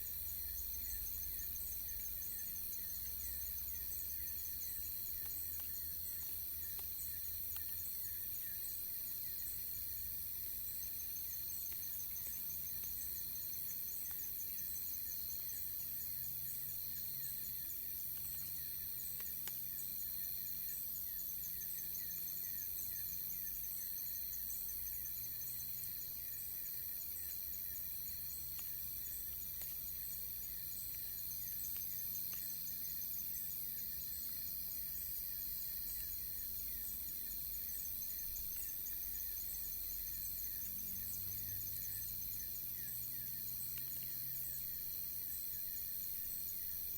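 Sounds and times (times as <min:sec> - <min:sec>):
insects chirping and trilling: 0:00.0 - 0:46.9.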